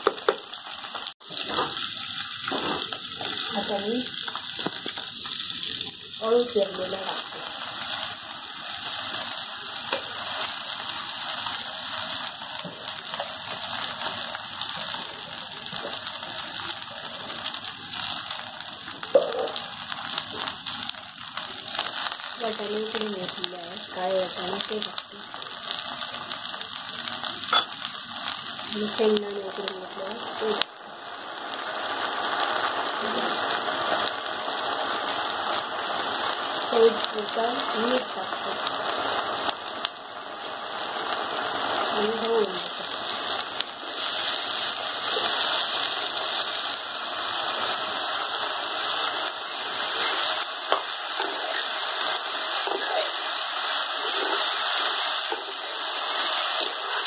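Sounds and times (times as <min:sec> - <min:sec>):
leaves sizzling in hot oil: 0:00.0 - 0:57.0.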